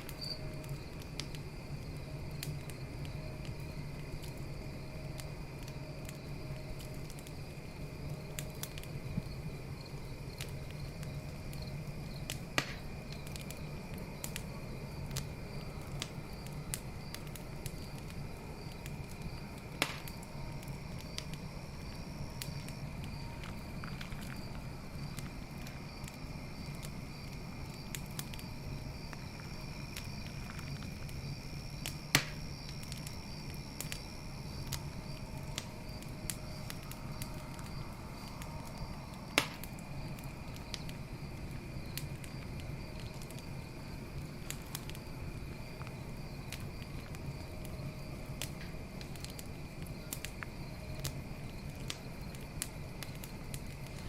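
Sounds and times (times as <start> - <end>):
loud fire snaps: 0.0 - 54.0
night insects trilling: 0.0 - 54.0
wood fire crackling: 0.0 - 54.0.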